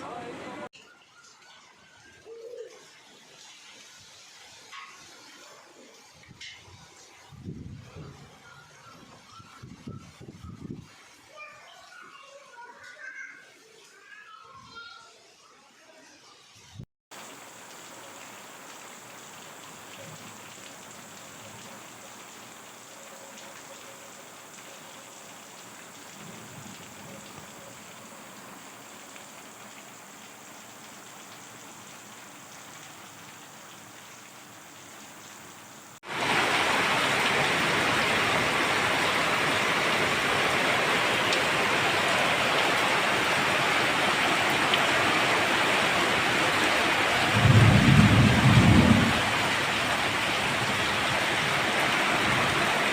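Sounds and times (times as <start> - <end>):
rain: 0.0 - 52.9.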